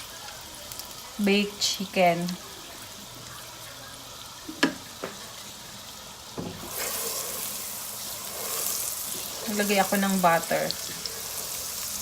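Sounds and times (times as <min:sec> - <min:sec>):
butter sizzling in pan: 0:00.0 - 0:12.0.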